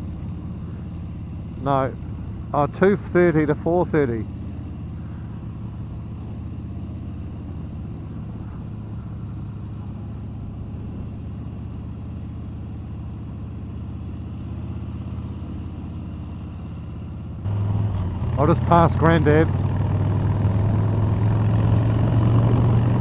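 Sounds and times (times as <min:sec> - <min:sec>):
motorcycle engine cruising: 0:00.0 - 0:23.0
road and wind noise: 0:00.0 - 0:23.0.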